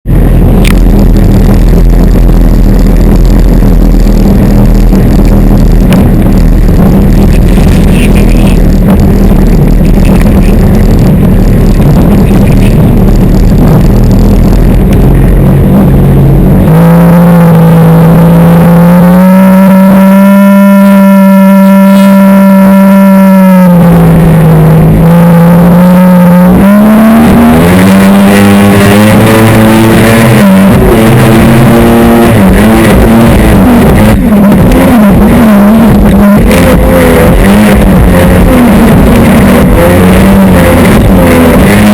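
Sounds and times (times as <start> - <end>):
jet ski engine whine: 0.0 - 41.9.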